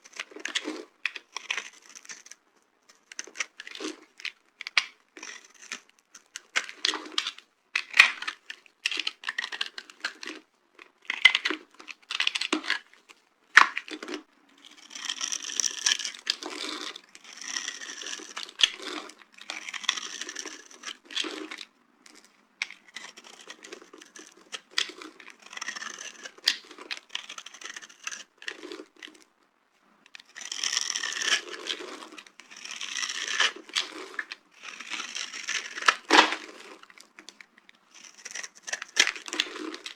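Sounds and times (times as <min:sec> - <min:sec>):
dry soap crunching: 0:00.0 - 0:29.3, 0:30.1 - 0:39.9.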